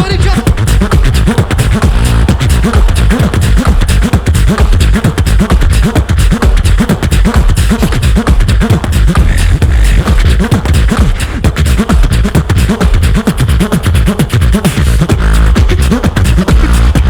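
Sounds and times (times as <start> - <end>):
beatbox performance: 0.0 - 17.0.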